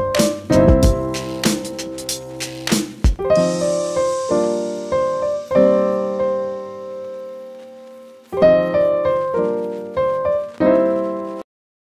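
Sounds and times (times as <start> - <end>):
piano chords: 0.0 - 11.4.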